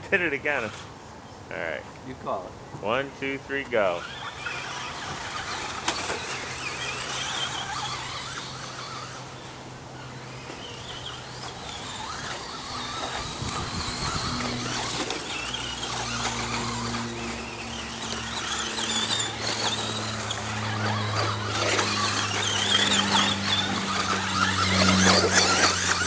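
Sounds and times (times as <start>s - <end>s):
rc trucks whining and squealing: 0.0s - 1.8s, 2.4s - 26.0s.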